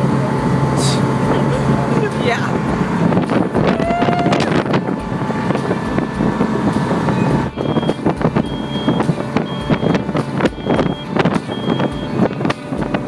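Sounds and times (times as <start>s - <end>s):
motorboat engine running: 0.0s - 13.0s
water rushing: 0.0s - 13.0s
wind buffeting microphone: 0.0s - 13.0s.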